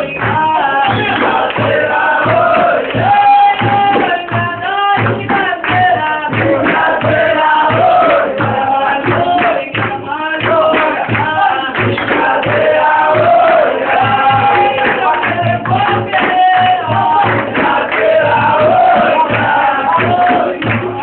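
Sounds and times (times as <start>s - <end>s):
steady drum beat: 0.0s - 21.0s
voices singing together: 0.0s - 21.0s.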